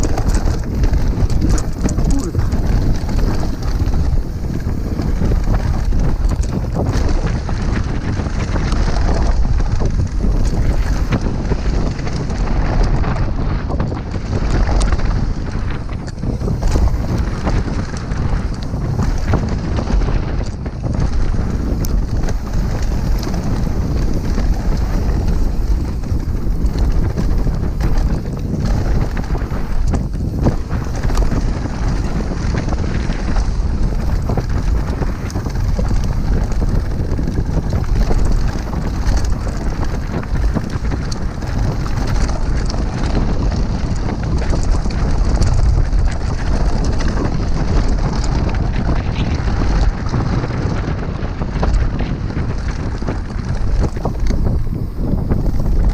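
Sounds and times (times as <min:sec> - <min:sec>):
bike rattling and knocking: 0:00.0 - 0:55.9
tyres on gravel trail: 0:00.0 - 0:55.9
wind noise on microphone: 0:00.0 - 0:55.9.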